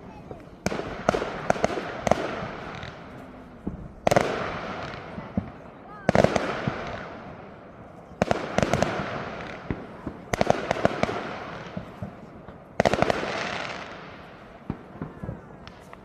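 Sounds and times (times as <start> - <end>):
aerial fireworks bursting: 0.0 - 16.0
fireworks crackle: 0.0 - 16.0.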